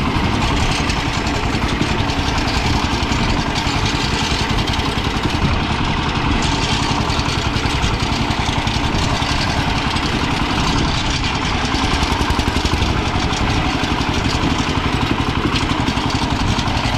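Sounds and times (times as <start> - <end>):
diesel engine chugging: 0.0 - 16.9.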